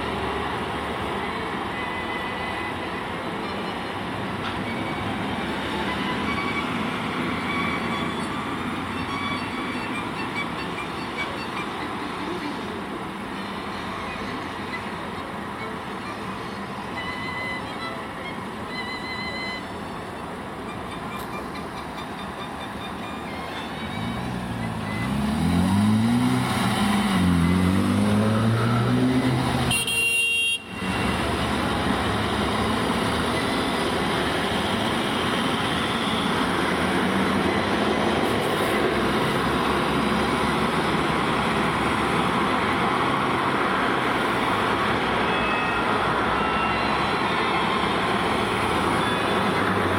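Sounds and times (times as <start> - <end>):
street traffic noise: 0.0 - 49.9.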